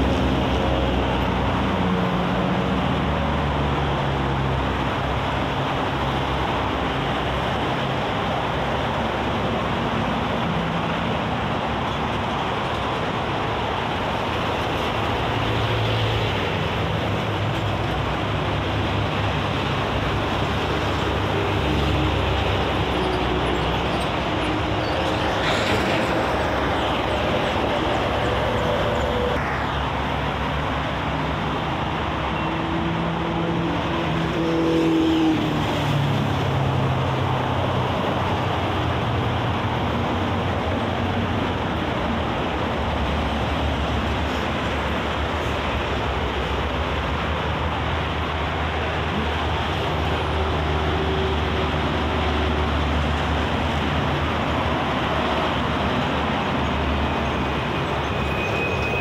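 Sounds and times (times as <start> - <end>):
low engine hum of heavy vehicles: 0.0 - 59.0
vehicles passing at speed: 0.0 - 59.0.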